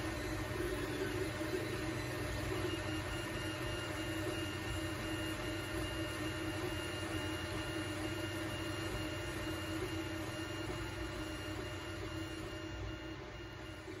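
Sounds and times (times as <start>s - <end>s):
electric motors humming: 0.0s - 14.0s.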